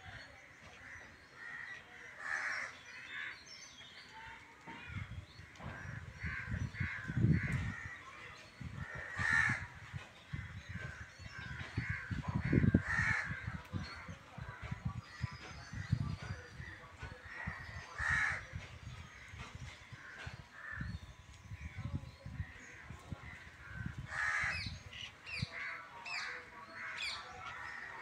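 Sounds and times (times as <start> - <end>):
harsh bird calls: 0.0 - 28.0.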